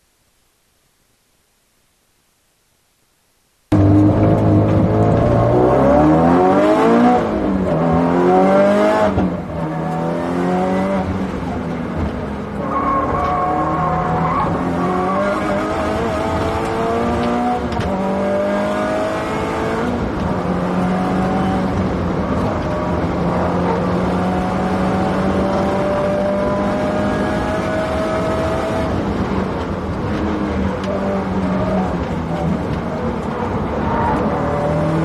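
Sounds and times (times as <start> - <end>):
car engine at full throttle: 3.7 - 35.0.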